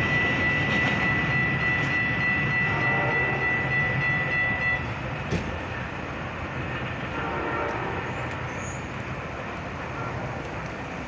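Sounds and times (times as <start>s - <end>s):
train rail noise: 0.0s - 11.0s.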